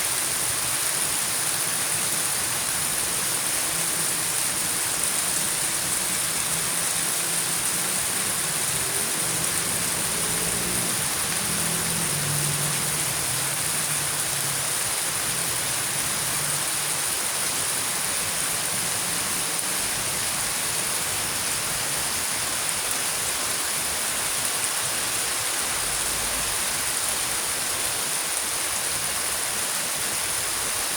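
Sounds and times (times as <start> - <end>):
heavy rain hiss: 0.0 - 30.9.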